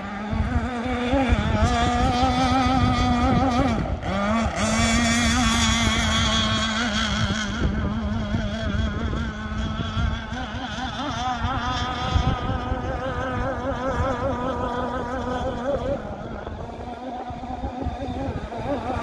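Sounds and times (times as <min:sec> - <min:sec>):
two-stroke boat engine at high speed: 0:00.0 - 0:19.0.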